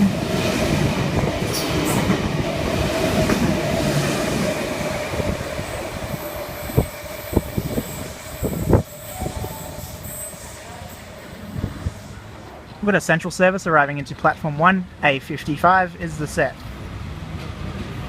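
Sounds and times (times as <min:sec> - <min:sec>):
train rumble and whine: 0:00.0 - 0:12.8, 0:16.1 - 0:18.0.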